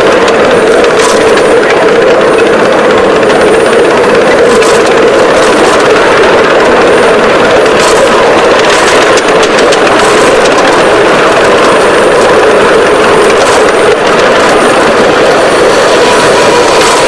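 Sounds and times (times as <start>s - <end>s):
miniature steam locomotive running: 0.0s - 17.0s.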